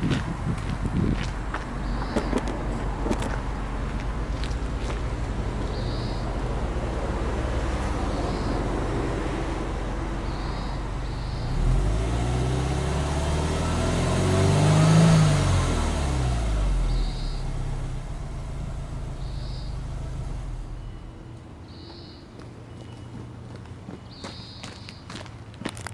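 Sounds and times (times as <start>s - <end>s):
car engine idling and revving: 0.0s - 24.5s.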